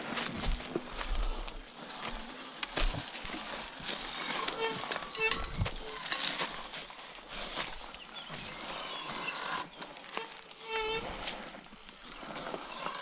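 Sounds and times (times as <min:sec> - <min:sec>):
leaves and twigs crackling underfoot: 0:00.0 - 0:13.0.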